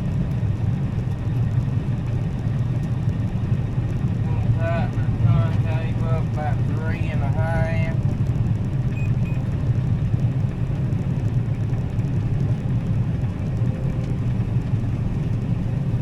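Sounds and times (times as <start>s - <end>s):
combine harvester droning: 0.0s - 16.0s.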